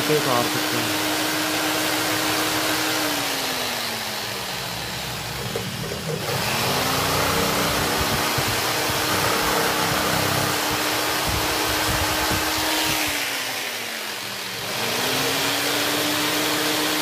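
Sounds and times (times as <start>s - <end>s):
electric jigsaw cutting acrylic: 0.0s - 17.0s.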